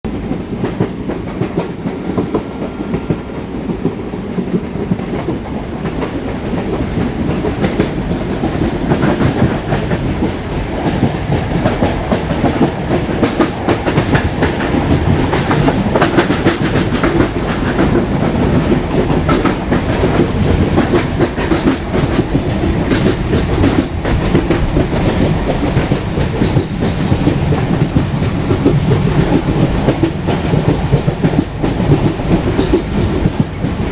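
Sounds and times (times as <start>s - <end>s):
train wheels clattering on track: 0.1s - 33.9s.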